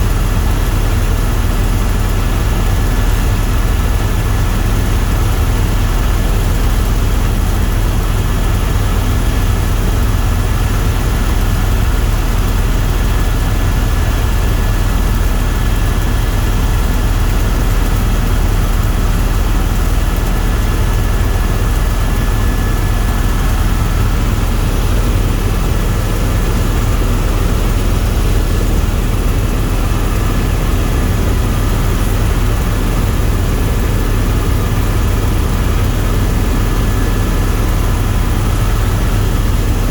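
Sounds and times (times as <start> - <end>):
helicopter rotor and turbine drone: 0.0 - 39.9
thin steady whine: 0.0 - 39.9.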